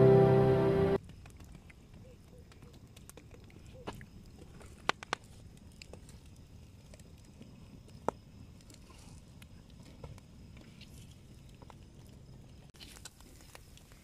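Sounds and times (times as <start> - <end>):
fire popping: 1.0 - 14.0.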